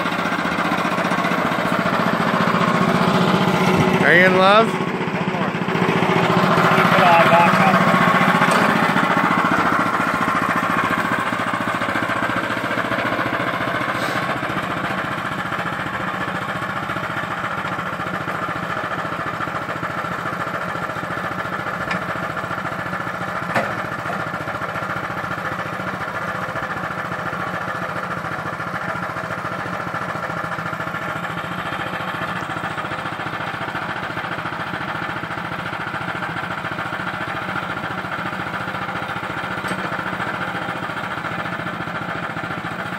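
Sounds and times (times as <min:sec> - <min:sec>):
bandsaw mill engine running: 0:00.0 - 0:42.9.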